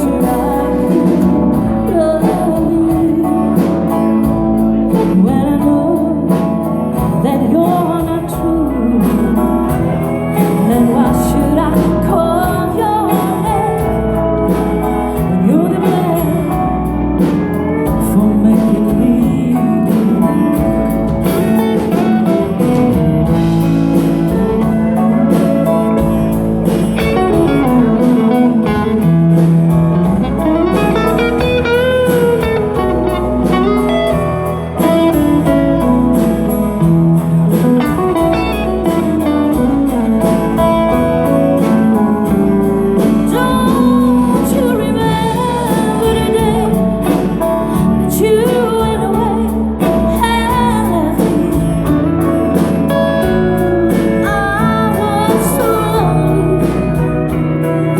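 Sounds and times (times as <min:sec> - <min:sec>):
bass and drums: 0:00.0 - 0:57.9
electric guitar lead lines: 0:00.0 - 0:57.9.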